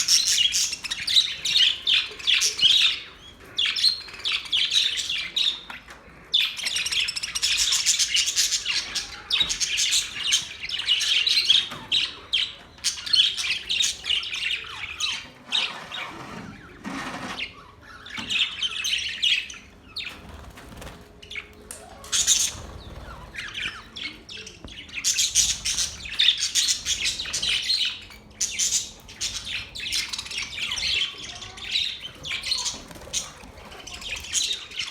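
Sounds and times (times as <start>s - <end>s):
parrots chirping and chattering: 0.0s - 34.9s.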